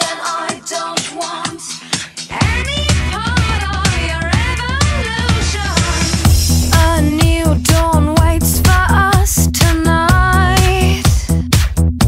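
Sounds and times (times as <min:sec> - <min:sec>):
upbeat pop disco music: 0:00.0 - 0:12.0.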